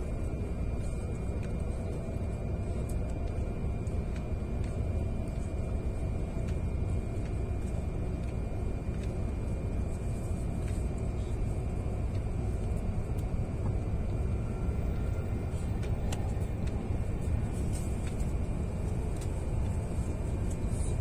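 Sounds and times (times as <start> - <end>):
train rumble inside cabin: 0.0 - 21.0.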